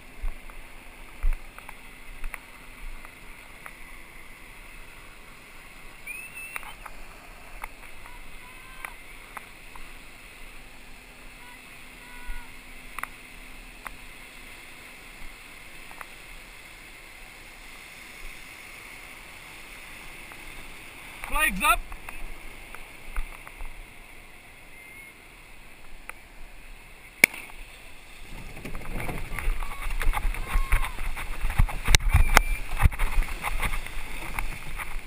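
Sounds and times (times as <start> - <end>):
water and wind hiss: 0.0 - 35.0.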